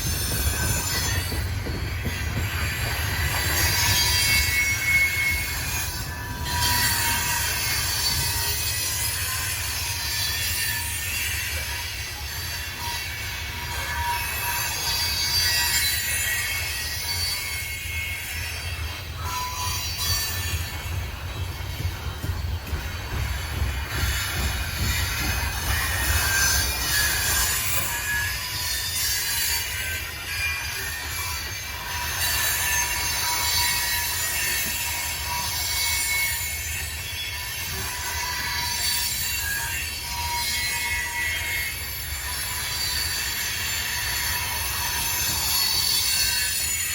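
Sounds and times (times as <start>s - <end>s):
freight train rumbling: 0.0s - 46.9s
train wheels squealing on rails: 0.0s - 46.9s.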